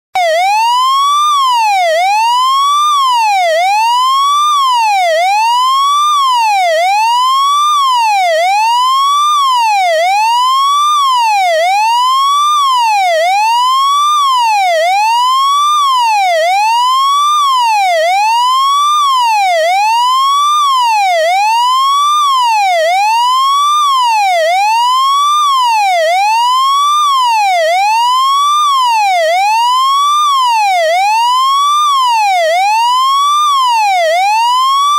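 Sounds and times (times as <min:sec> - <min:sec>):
fire engine siren wailing: 0:00.2 - 0:34.9.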